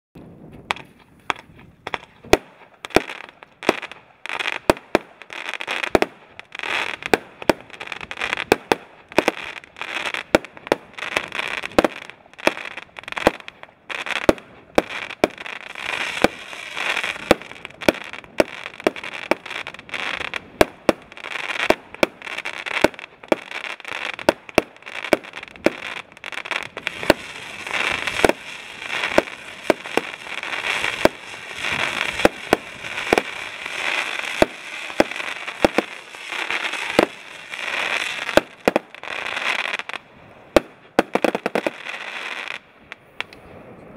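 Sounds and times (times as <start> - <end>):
fireworks crackling: 0.2 - 43.9
fireworks reports: 0.2 - 43.9.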